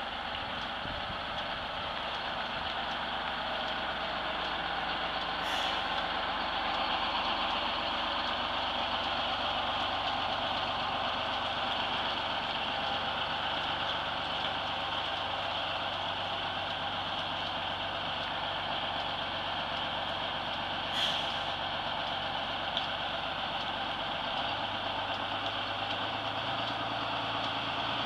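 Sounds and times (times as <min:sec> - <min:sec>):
bus diesel engine: 0:00.0 - 0:28.0.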